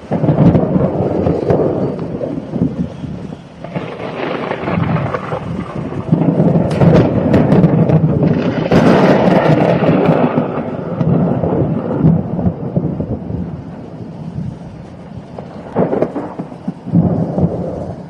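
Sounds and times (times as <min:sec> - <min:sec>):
thunder rumbling and cracking: 0:00.0 - 0:18.0.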